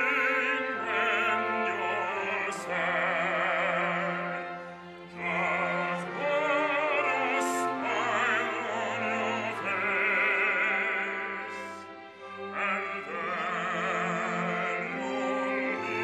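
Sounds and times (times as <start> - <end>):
operatic singing: 0.0 - 16.0
orchestral accompaniment: 0.0 - 16.0.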